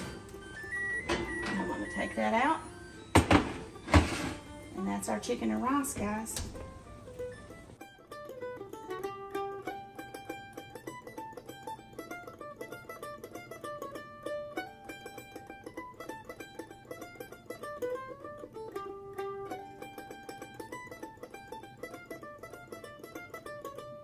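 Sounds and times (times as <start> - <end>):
mandolin melody: 0.0 - 24.0.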